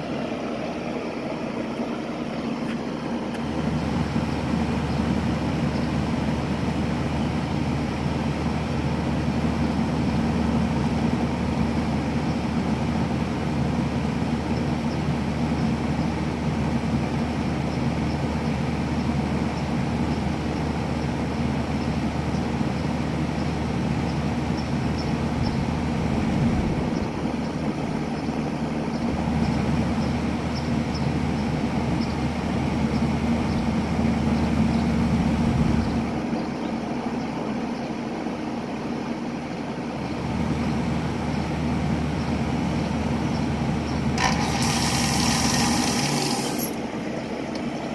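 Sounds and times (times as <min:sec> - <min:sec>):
compressor droning: 0:00.0 - 0:47.9.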